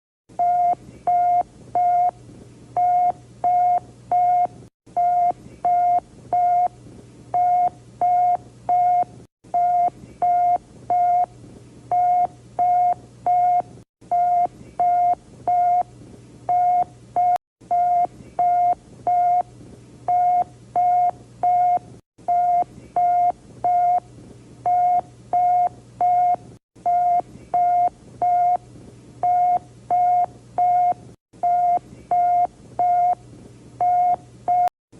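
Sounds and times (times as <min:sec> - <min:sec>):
faint low hum: 0:00.4 - 0:34.6.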